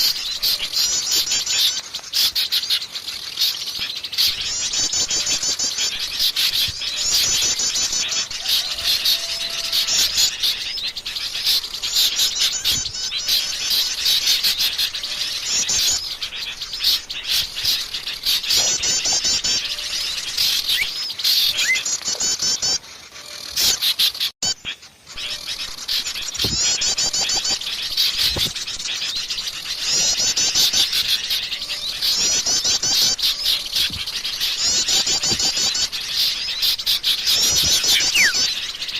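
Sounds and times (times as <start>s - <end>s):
songbirds chirping and chattering: 0.0s - 38.9s.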